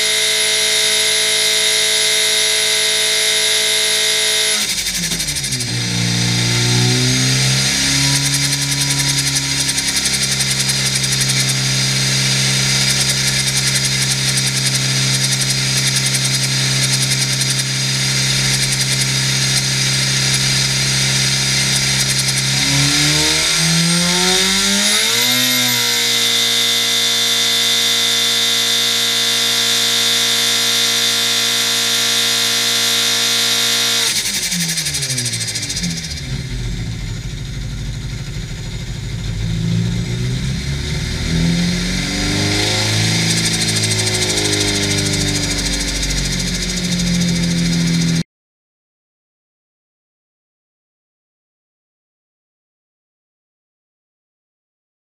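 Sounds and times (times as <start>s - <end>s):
engine running on a dyno: 0.0s - 48.2s
high supercharger whine: 0.0s - 48.2s.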